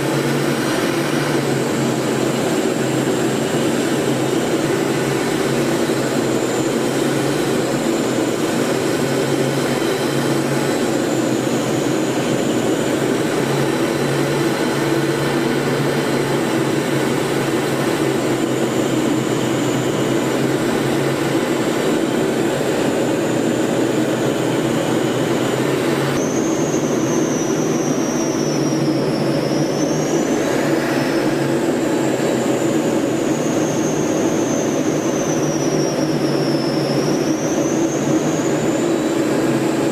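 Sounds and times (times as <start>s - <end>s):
aircraft engines droning: 0.0s - 39.9s
high whine: 0.0s - 39.9s.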